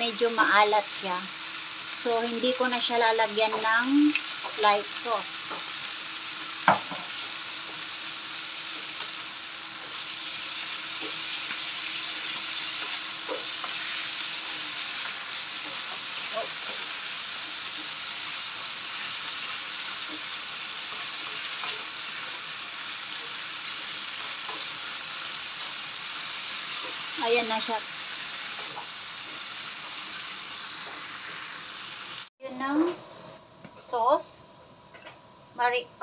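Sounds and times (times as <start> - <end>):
vegetables sizzling in frying pan: 0.0 - 32.8.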